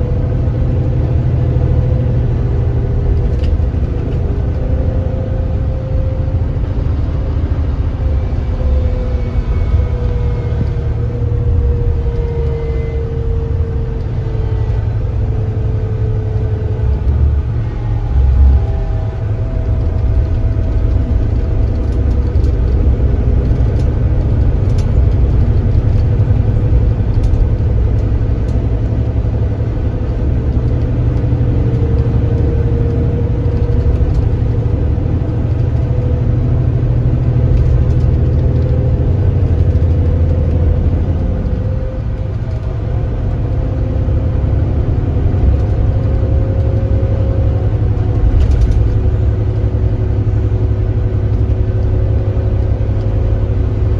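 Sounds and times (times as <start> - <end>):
bus engine droning: 0.0 - 53.9
faint engine whine: 0.0 - 53.9.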